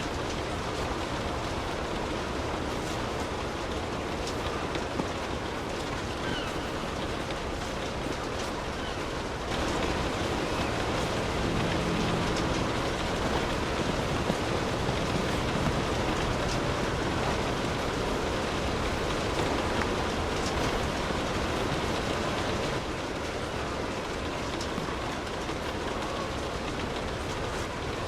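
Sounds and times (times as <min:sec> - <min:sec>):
steady rainfall: 0:00.0 - 0:28.0.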